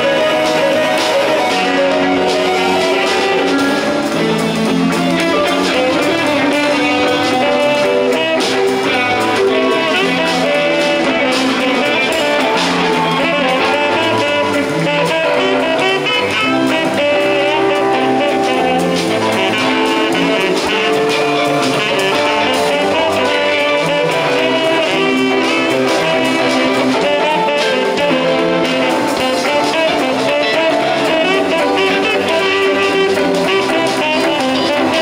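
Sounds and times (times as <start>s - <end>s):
guitar: 0.0s - 35.0s
live band playing: 0.0s - 35.0s.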